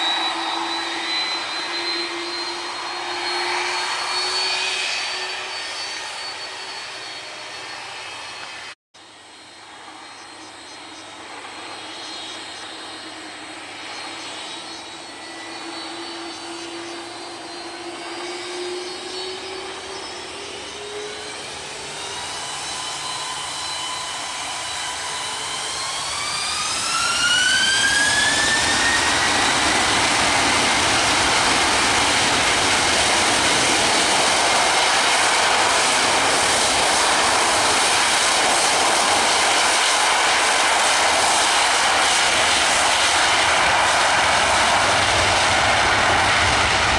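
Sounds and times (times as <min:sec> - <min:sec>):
jet engines spooling up: 0:00.0 - 0:46.9.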